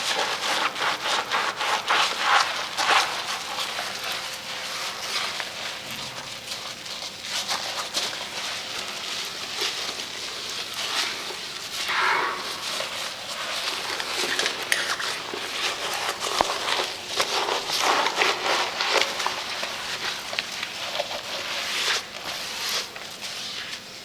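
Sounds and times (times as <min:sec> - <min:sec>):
scrubbing porcelain bowl: 0:00.0 - 0:24.0.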